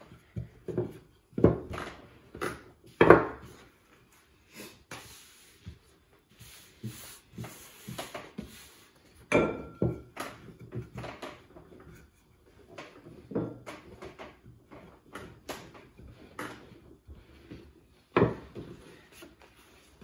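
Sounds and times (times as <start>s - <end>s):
rolling pin knocking and rubbing on board: 0.0s - 3.6s, 4.9s - 20.0s.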